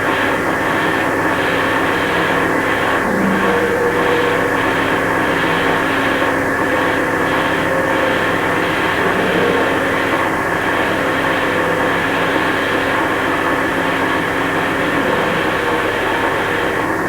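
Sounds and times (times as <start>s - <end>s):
held droning tones: 0.0s - 17.0s.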